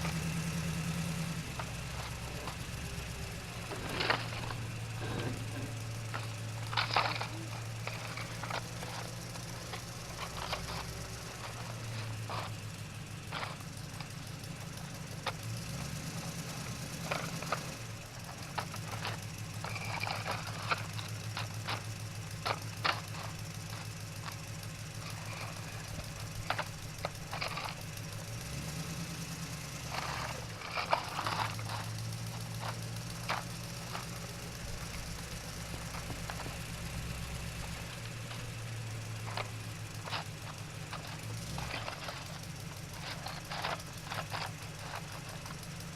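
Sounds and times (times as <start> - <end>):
low motor hum: 0.0 - 45.9.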